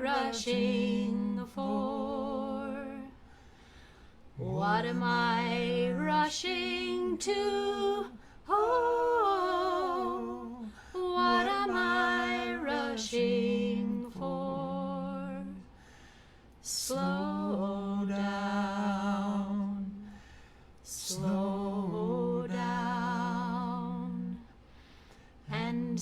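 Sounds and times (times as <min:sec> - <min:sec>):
voices singing in harmony: 0:00.0 - 0:03.3, 0:04.4 - 0:15.7, 0:16.6 - 0:20.2, 0:20.8 - 0:24.5, 0:25.4 - 0:26.0.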